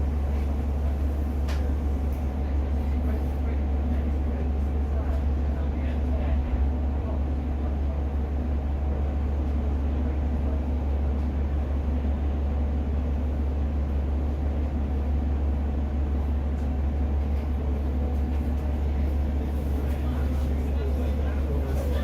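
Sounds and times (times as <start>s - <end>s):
train diesel engine drone: 0.0s - 22.0s.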